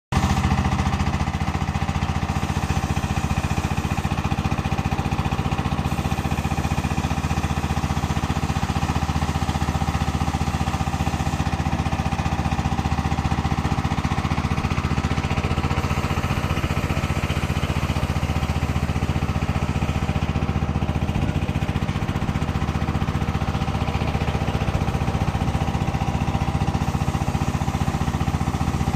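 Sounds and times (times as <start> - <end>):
concrete mixer engines droning: 0.2 - 28.9.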